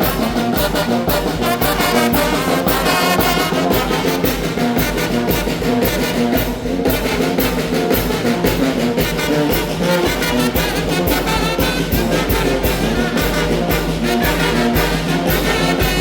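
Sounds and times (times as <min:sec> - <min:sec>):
drums and cymbals beat: 0:00.0 - 0:16.0
trombones and trumpets melody: 0:00.0 - 0:16.0.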